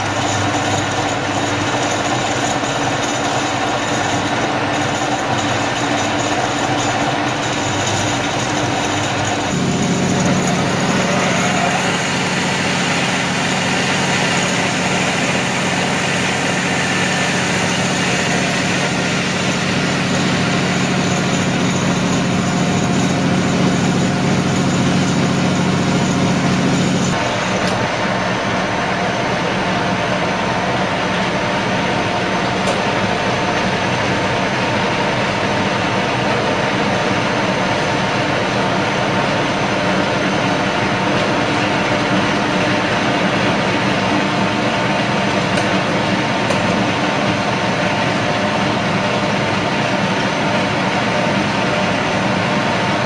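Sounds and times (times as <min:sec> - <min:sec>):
drilling machine running: 0:00.0 - 0:53.0.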